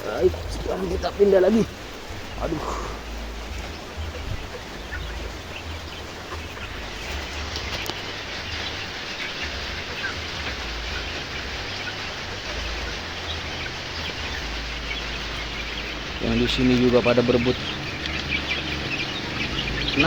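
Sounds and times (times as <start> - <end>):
chickens chirping: 0.0 - 20.0
steady rain: 0.0 - 20.0.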